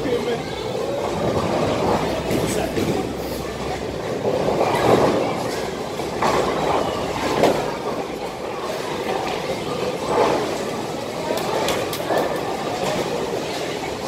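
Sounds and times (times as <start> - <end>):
bowling balls rumbling down lanes: 0.8 - 14.0.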